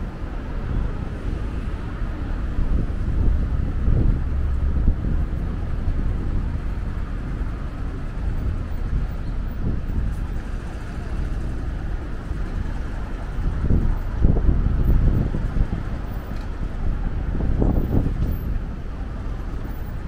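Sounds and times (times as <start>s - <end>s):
passing vehicles: 0.0s - 20.0s.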